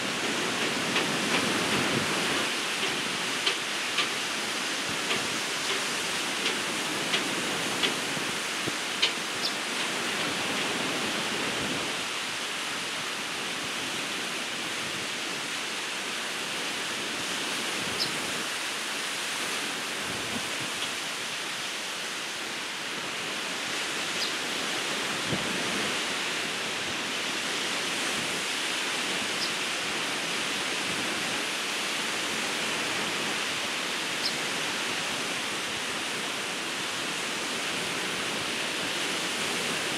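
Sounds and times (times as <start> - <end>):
ocean surf washing on beach: 0.0 - 39.9.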